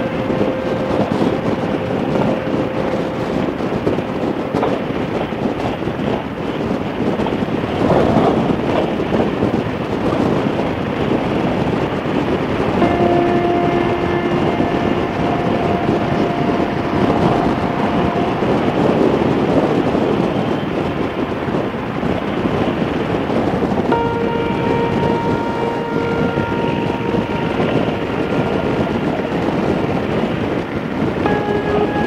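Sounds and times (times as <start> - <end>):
road noise: 0.0 - 32.0
wind rushing over microphone: 0.0 - 32.0.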